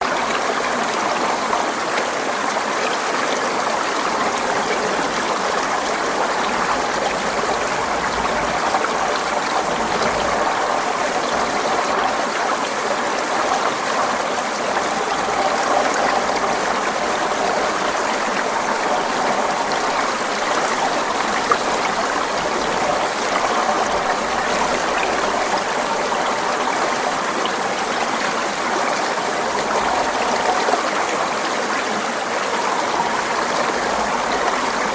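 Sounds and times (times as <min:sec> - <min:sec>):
water running over rocks: 0:00.0 - 0:34.9.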